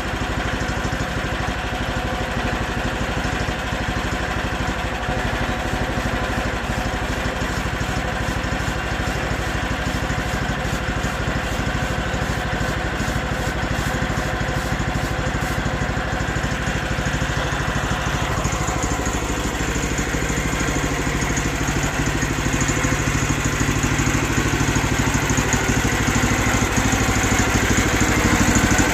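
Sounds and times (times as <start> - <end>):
small gas engine running: 0.0 - 28.9.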